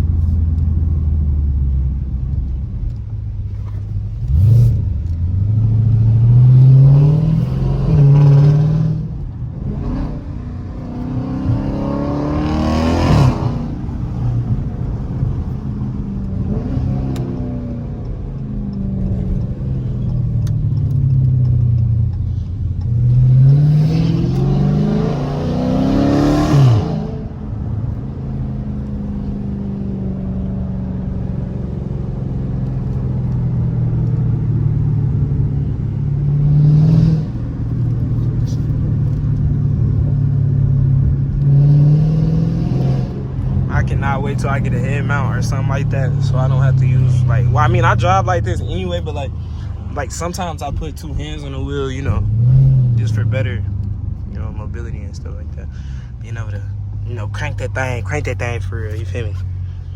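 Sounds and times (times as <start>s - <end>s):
car engine accelerating through gears: 0.0s - 59.9s.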